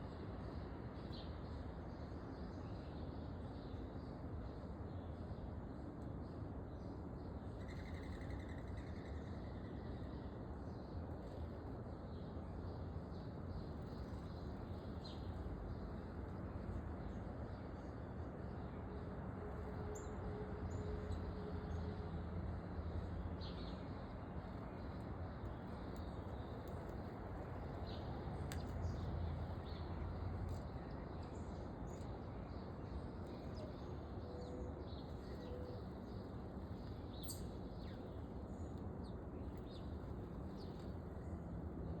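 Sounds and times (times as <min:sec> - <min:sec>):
songbirds chirping: 0:00.0 - 0:42.0.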